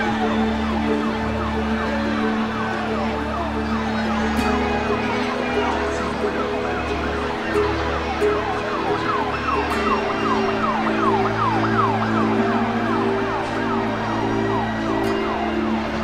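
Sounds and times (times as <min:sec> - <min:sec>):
emergency siren: 0:00.0 - 0:16.0
low background music: 0:00.0 - 0:16.0.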